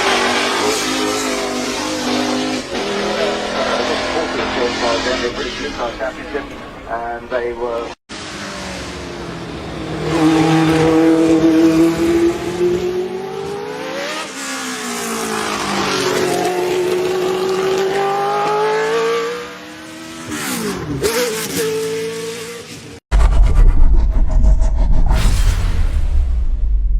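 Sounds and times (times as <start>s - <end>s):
race car engine at high revs: 0.0s - 6.8s, 8.1s - 23.0s.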